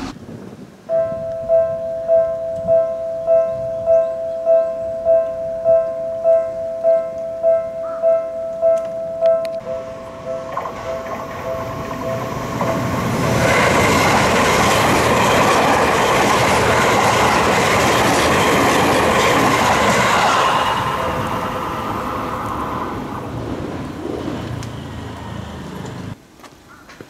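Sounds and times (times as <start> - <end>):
electric train passing: 0.9 - 26.2.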